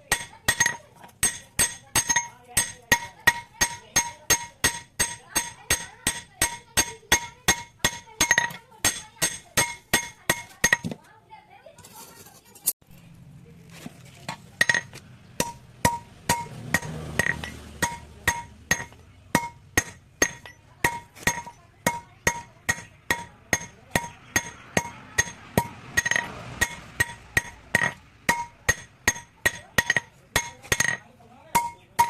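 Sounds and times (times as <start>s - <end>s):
hammer striking steel on anvil: 0.0s - 11.0s, 14.6s - 32.0s.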